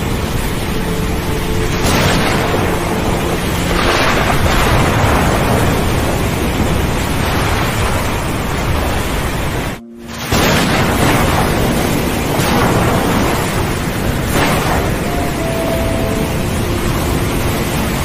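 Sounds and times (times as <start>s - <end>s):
wind: 0.0s - 18.0s.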